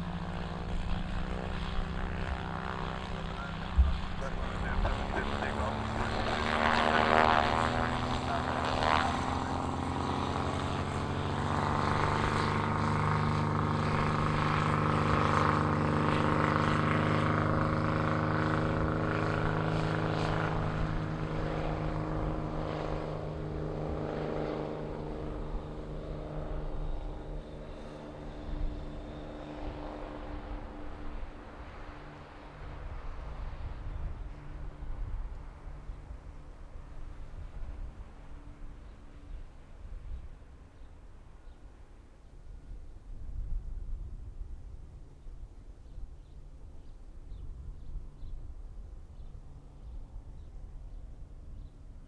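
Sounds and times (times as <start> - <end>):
propeller aircraft droning: 0.0 - 52.0.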